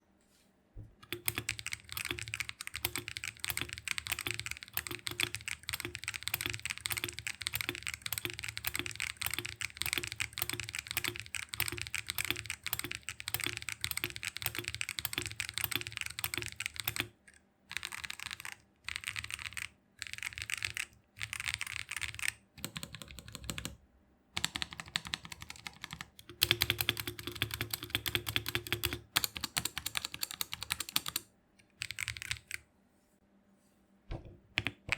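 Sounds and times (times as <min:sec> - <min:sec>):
mechanical keyboard typing: 0:01.0 - 0:23.8, 0:24.4 - 0:32.6, 0:34.5 - 0:34.9.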